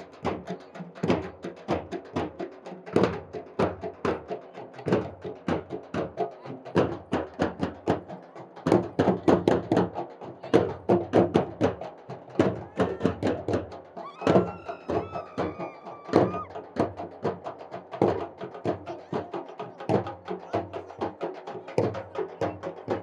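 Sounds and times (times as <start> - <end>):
folk drums playing fast beat: 0.0 - 23.0.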